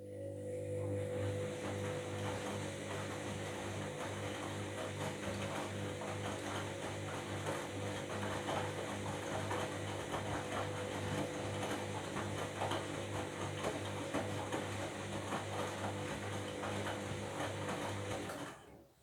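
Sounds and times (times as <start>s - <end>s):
washing machine motor hum: 0.0s - 18.9s.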